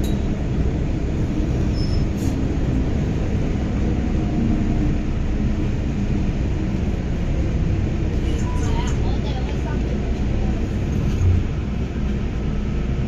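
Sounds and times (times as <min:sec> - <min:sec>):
train car low rumble: 0:00.0 - 0:13.0.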